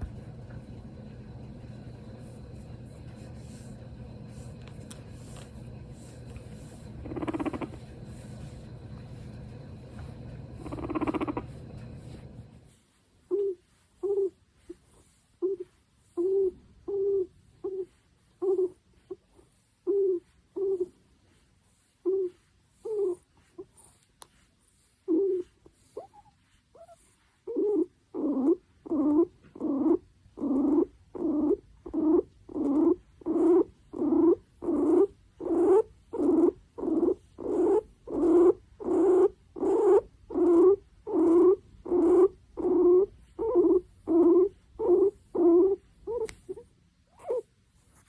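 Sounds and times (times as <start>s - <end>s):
guinea pig squeaking: 5.1s - 9.3s, 9.9s - 12.2s, 13.2s - 48.0s.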